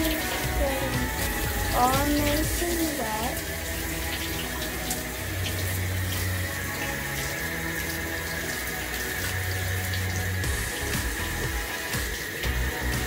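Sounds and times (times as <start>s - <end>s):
shower head spraying water: 0.0s - 13.0s
water running into tub: 0.0s - 13.0s.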